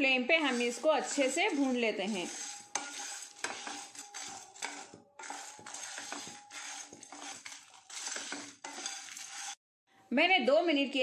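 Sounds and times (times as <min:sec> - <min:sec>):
spatula scraping pan: 0:00.0 - 0:09.6.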